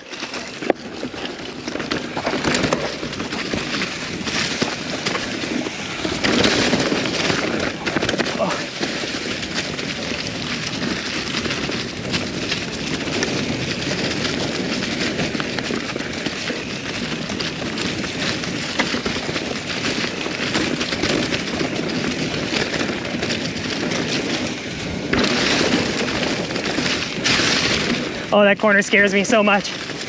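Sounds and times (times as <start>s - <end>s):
bike clattering over roots: 0.0s - 30.0s
bike tyre noise on dirt: 0.0s - 30.0s.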